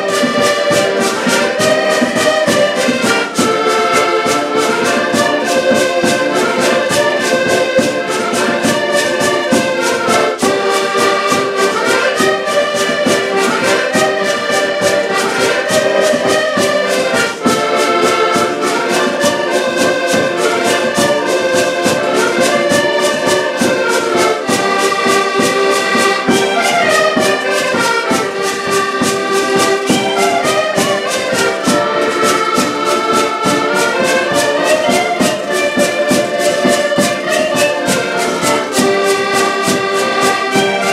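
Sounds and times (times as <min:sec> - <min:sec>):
button accordions playing folk tune: 0:00.0 - 0:40.9
hand drum beating: 0:00.0 - 0:40.9.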